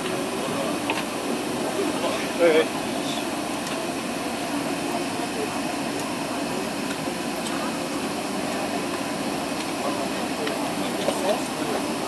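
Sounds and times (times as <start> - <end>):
airport background rush: 0.0 - 12.0.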